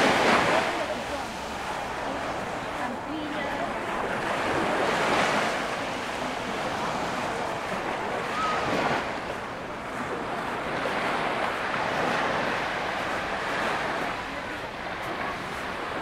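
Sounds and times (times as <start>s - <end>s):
surf breaking on sand beach: 0.0s - 16.0s.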